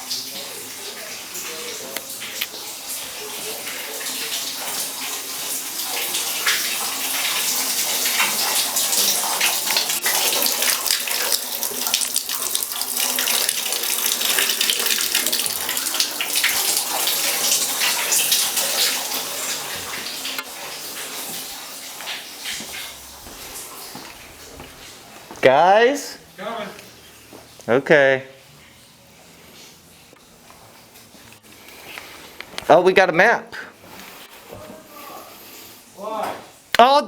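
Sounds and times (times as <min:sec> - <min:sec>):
water running from a tap: 0:00.0 - 0:32.6, 0:33.6 - 0:36.8.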